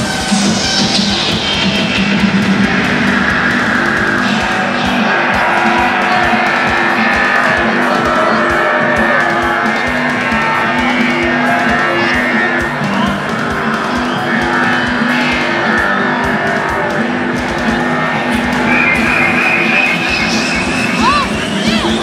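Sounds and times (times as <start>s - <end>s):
loud live concert music: 0.0s - 22.0s.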